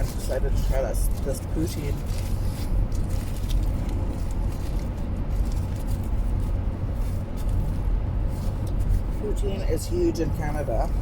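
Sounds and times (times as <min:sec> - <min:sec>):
car cabin road and engine rumble: 0:00.0 - 0:11.0
faint rustles and clicks: 0:00.0 - 0:11.0.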